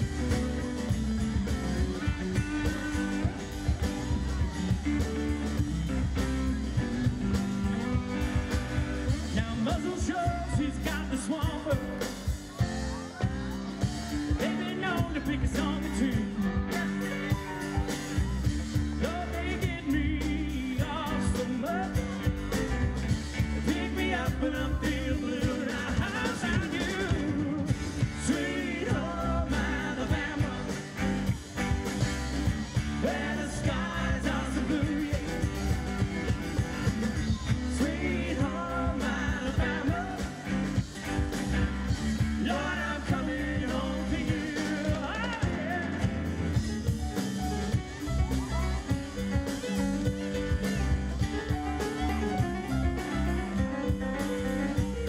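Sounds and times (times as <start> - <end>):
drums: 0.0 - 55.0
electric and acoustic guitars: 0.0 - 55.0
keyboard: 0.0 - 55.0.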